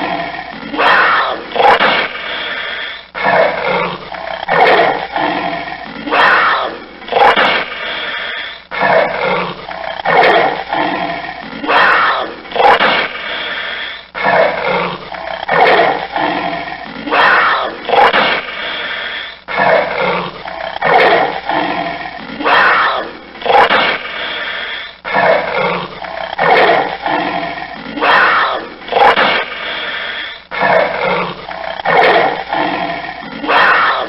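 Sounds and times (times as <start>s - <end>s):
panther roaring: 0.0s - 34.0s.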